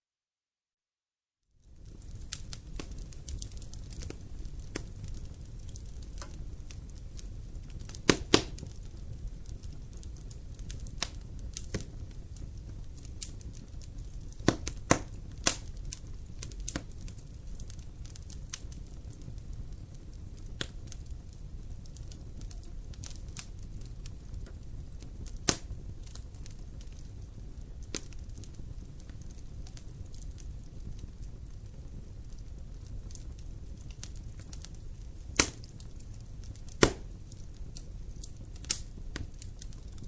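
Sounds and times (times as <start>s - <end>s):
low rumble of flame: 1.5s - 40.0s
fire popping and snapping: 1.6s - 40.0s.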